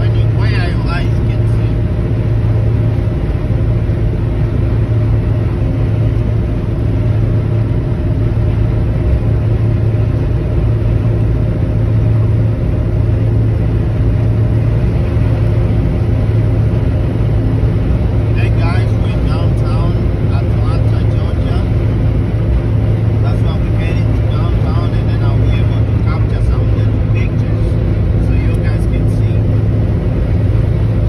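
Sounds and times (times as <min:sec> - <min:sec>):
vehicle driving at highway speed: 0:00.0 - 0:31.0.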